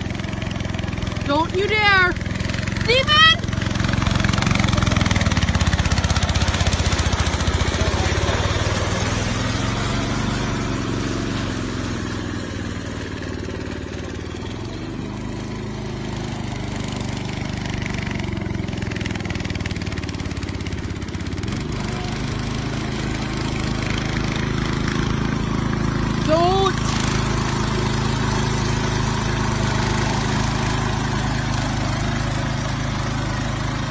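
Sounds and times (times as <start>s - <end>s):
lawnmower engine revving: 0.0s - 33.9s.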